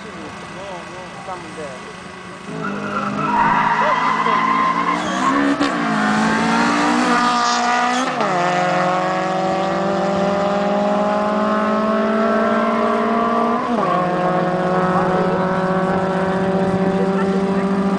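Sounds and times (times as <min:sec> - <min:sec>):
car engines accelerating hard: 0:00.0 - 0:17.9.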